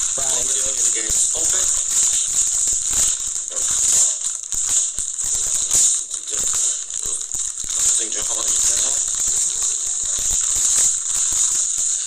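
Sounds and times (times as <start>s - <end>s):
plastic wrapper crackling: 0.0s - 12.0s.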